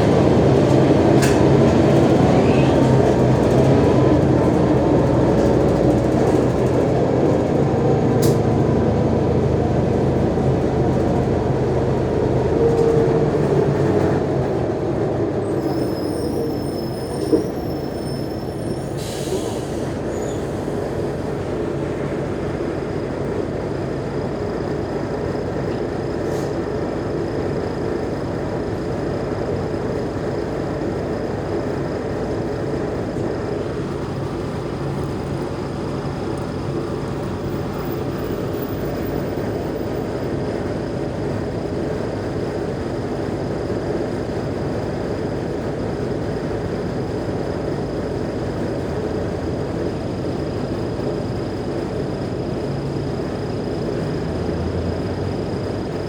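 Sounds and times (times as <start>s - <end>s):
bus diesel engine pulling: 0.0s - 56.0s.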